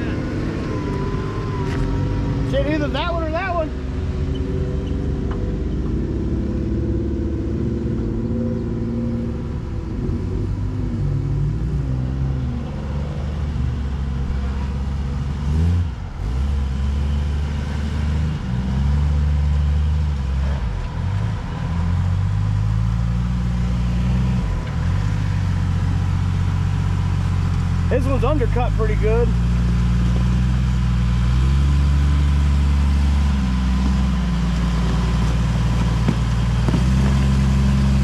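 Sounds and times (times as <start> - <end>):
utv engine revving: 0.0 - 38.0.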